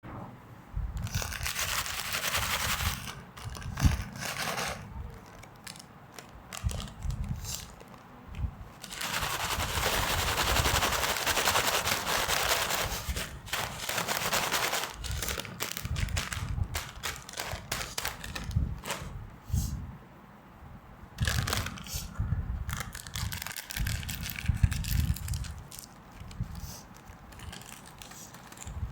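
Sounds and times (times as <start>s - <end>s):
plastic wrappers crinkling: 1.0s - 19.1s, 21.2s - 22.0s, 22.7s - 28.9s.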